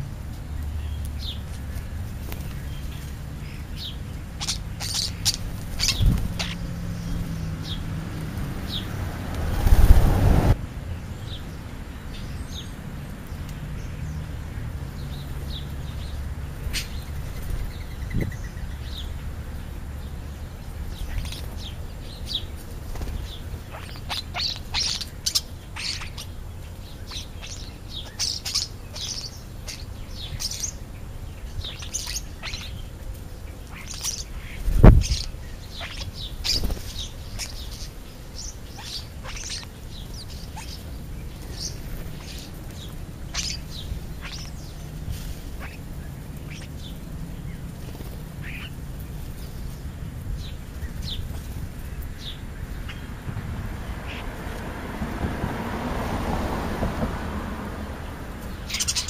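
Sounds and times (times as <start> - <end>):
starlings chirping and calling: 0.0 - 54.8, 57.8 - 59.0.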